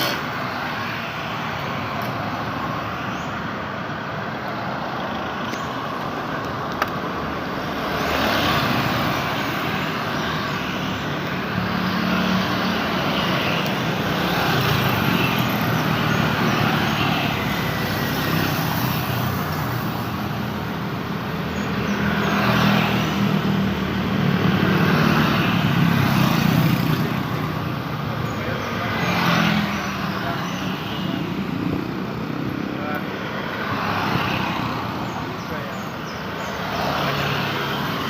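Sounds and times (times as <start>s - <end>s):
cars passing: 0.0s - 38.0s
motorcycles passing: 0.0s - 38.0s.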